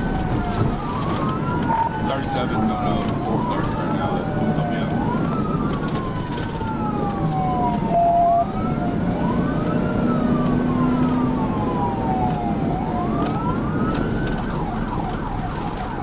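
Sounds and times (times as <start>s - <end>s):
engine and road noise: 0.0s - 16.0s
police siren wailing: 0.0s - 16.0s.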